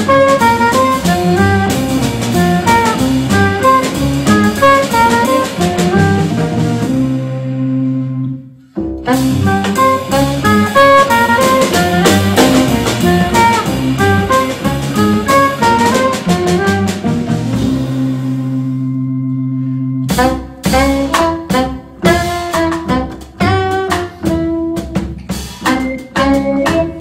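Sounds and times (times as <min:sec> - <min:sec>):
saxophone: 0:00.0 - 0:25.0, 0:25.6 - 0:27.0
drum kit: 0:00.0 - 0:27.0
organ jazz band playing: 0:00.0 - 0:27.0.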